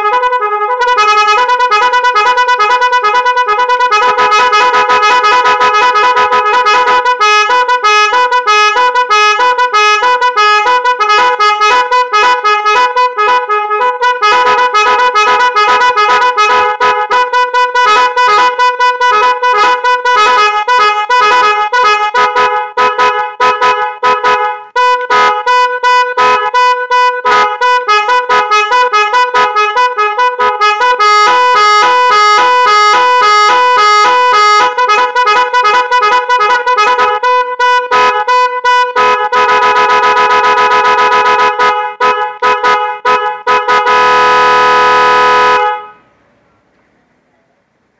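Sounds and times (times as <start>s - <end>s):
electric horn melody: 0.0s - 46.1s.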